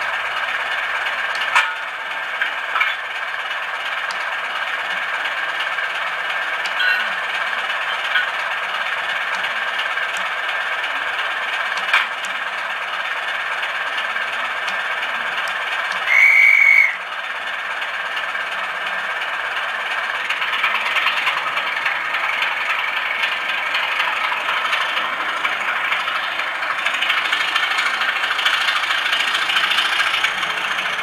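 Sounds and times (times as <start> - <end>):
tinny diesel engine idling sound: 0.0 - 31.0.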